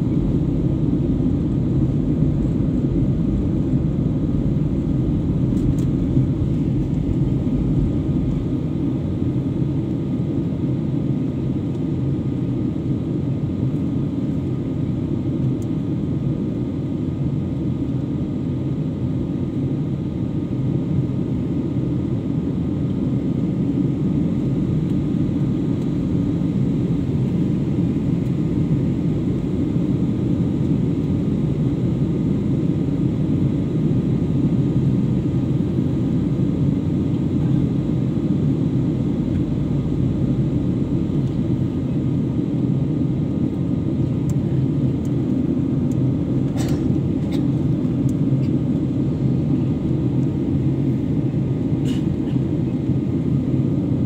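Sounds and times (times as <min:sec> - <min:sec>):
jet engine and airflow rumble: 0:00.0 - 0:54.0.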